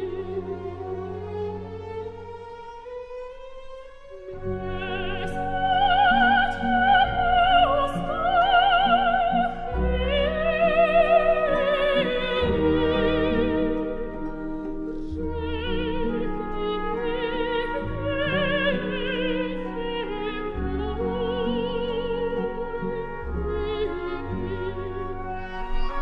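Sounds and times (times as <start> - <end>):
operatic soprano singing: 0.0 - 1.6, 4.4 - 26.0
orchestra playing: 0.0 - 26.0.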